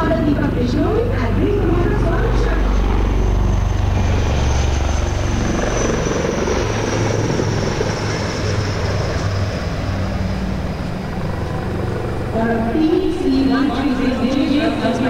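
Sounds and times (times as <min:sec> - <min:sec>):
faint high turbine whine: 0:00.0 - 0:15.0.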